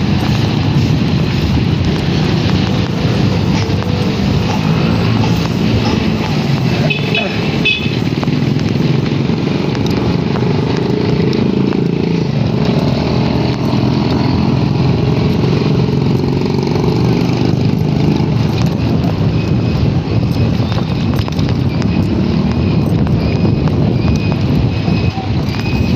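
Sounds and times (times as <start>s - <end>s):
vehicle engine and road noise: 0.0s - 25.9s.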